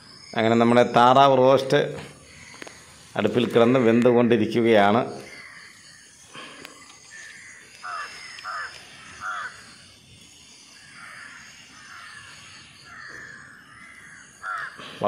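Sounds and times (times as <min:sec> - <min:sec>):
crows cawing: 0:02.0 - 0:04.1, 0:04.7 - 0:15.0.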